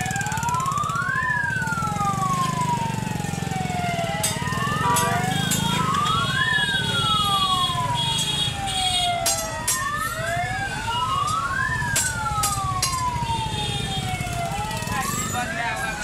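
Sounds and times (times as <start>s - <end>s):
alarm siren wailing: 0.0s - 16.0s
street traffic rumbling: 0.0s - 16.0s.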